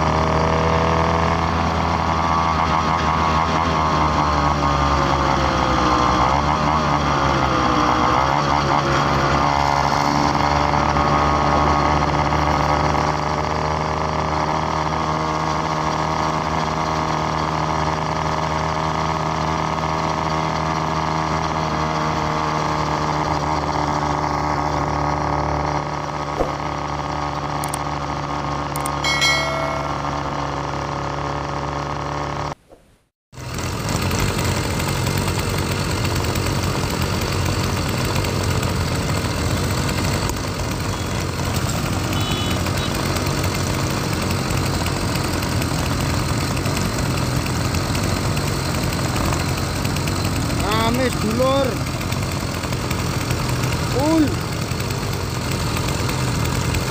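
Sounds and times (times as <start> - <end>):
small engine humming: 0.0 - 32.6, 33.4 - 56.9.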